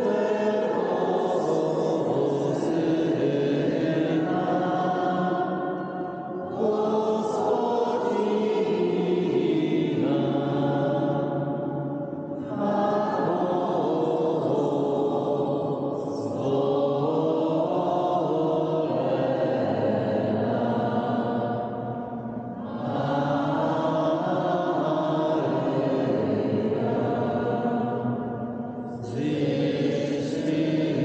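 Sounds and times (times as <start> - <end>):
people singing a hymn: 0.0 - 31.0.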